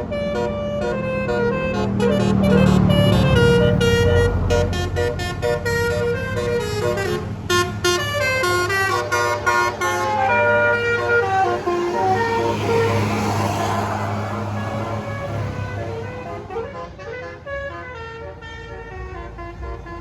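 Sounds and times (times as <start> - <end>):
bus horn playing a melody: 0.0 - 20.0
low bus engine hum: 0.0 - 20.0.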